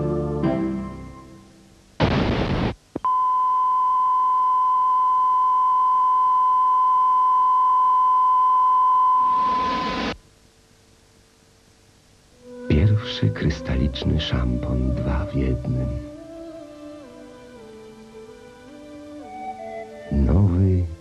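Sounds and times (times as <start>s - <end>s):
tv static hiss: 0.0s - 7.6s, 8.2s - 21.0s.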